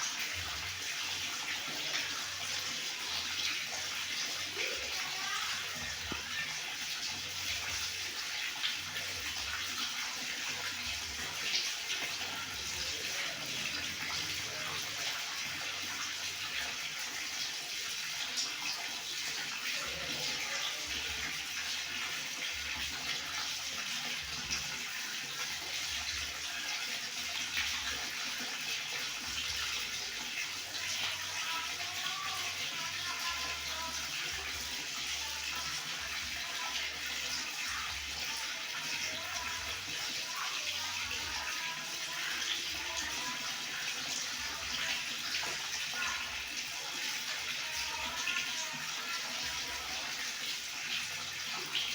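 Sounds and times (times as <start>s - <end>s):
water running from a tap: 0.0s - 51.9s.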